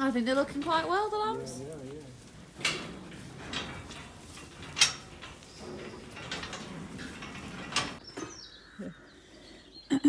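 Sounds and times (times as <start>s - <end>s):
sharp knocks and clatters: 0.0s - 8.4s.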